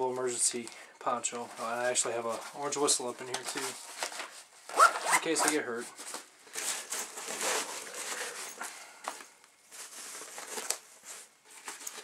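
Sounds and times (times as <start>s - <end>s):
plastic crinkling: 0.1s - 12.0s.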